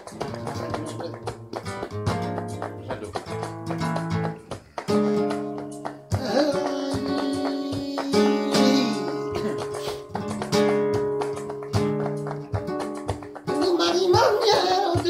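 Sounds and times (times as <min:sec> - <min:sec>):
flamenco acoustic guitar strumming: 0:00.0 - 0:15.0.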